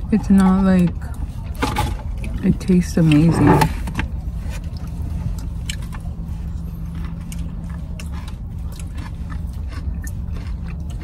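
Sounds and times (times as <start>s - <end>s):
steady low hum: 0.0s - 11.0s
chewing and biting food: 0.1s - 11.0s.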